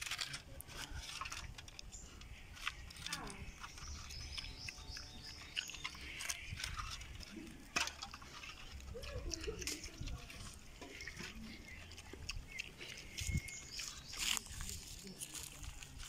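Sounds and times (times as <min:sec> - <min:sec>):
pig slurping and chewing: 0:00.0 - 0:16.0.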